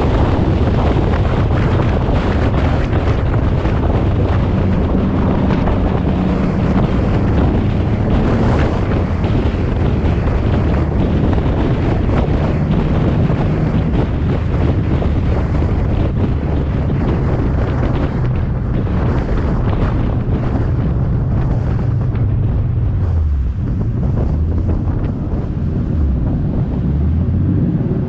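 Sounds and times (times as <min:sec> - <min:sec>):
car engine running: 0:00.0 - 0:28.0
wind buffeting microphone: 0:00.0 - 0:28.0.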